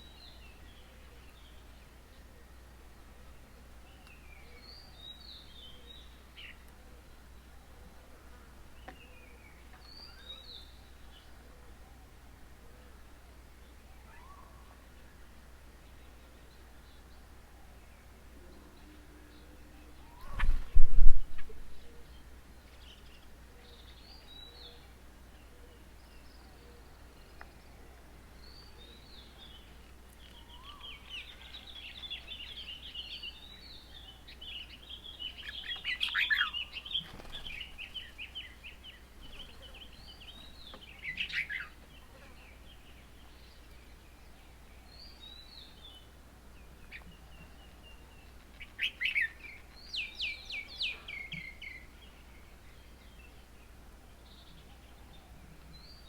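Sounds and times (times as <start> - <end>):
birds calling and chattering: 0.0 - 56.0.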